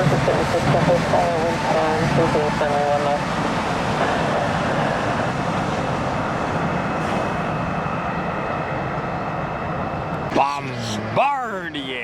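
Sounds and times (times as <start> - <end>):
jet engines rushing: 0.0 - 11.9.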